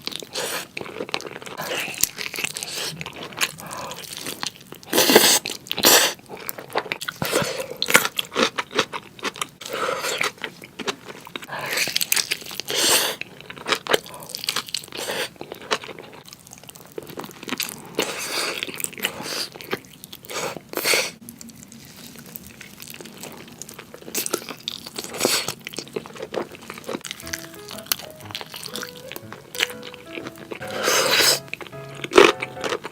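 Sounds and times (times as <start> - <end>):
person crunching and chewing: 0.0 - 32.9.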